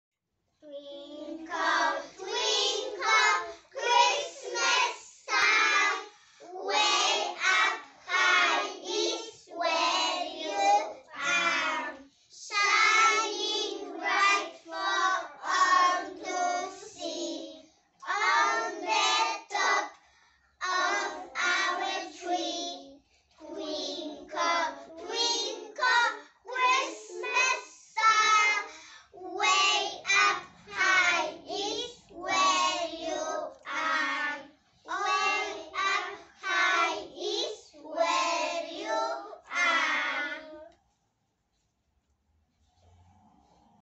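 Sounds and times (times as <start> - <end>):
children singing unaccompanied: 0.6 - 20.0, 20.6 - 40.8.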